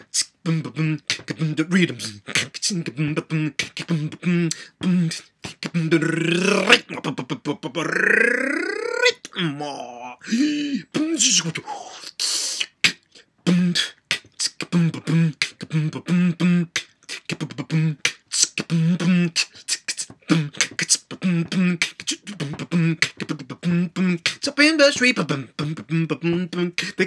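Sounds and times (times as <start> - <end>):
man beatboxing: 0.0 - 27.0.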